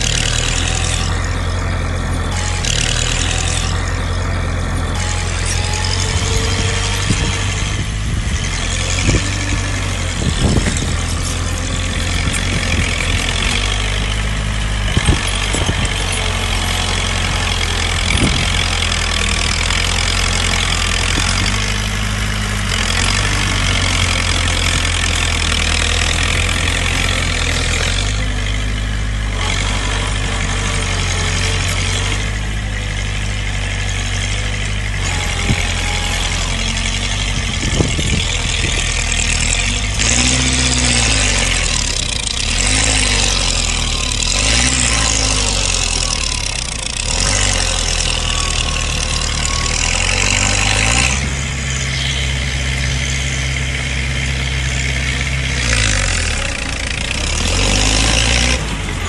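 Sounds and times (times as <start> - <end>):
engine revving: 0.0 - 59.0
heavy diesel engines running: 0.0 - 59.0.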